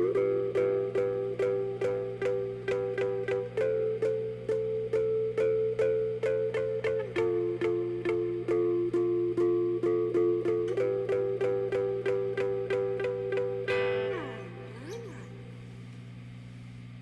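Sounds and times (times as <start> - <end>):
plucked string instrument: 0.0 - 15.7
steady low hum: 0.0 - 17.0.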